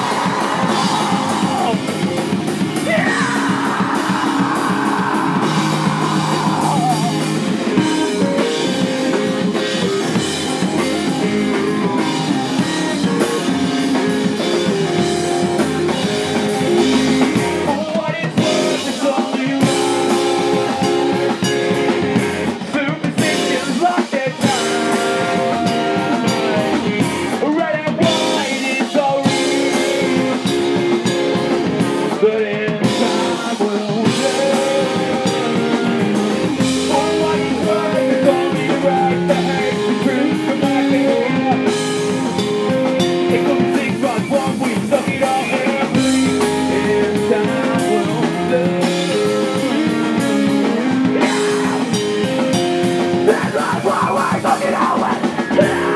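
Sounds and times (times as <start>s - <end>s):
drum kit: 0.0s - 55.9s
guitar: 0.0s - 55.9s
person singing: 0.0s - 55.9s.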